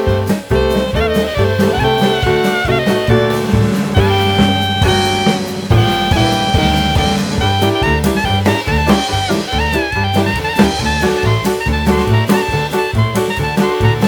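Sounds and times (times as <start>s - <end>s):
instrumental music with horns: 0.0s - 14.0s.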